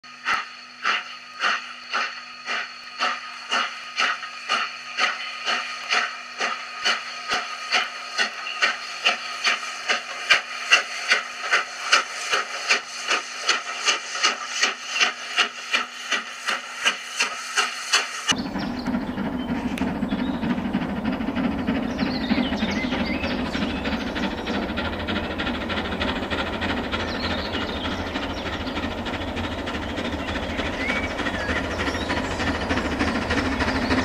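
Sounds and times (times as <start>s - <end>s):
steam locomotive chuffing: 0.0s - 34.0s.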